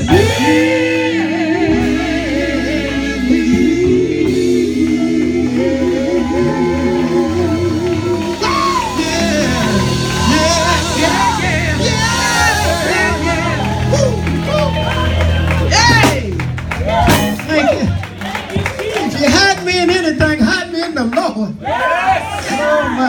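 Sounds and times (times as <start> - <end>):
band with guitar: 0.0 - 20.7.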